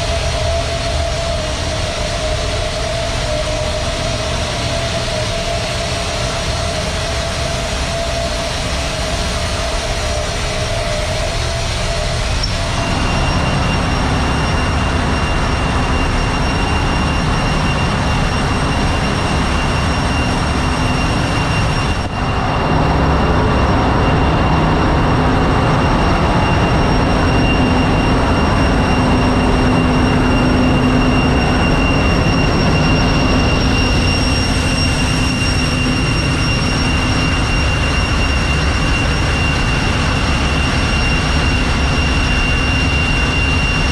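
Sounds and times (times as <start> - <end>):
engine room machinery: 0.0 - 43.9
high whining tones: 0.0 - 43.9.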